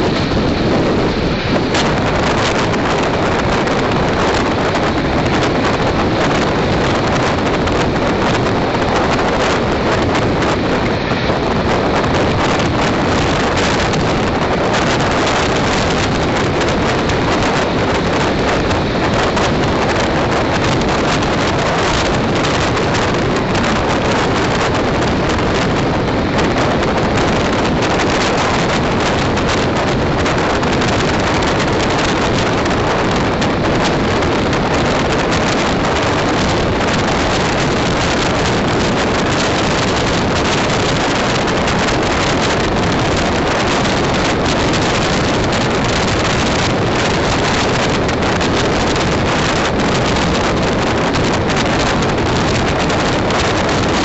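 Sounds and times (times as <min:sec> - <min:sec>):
moving train running noise: 0:00.0 - 0:54.0
wind buffeting microphone: 0:00.0 - 0:54.0.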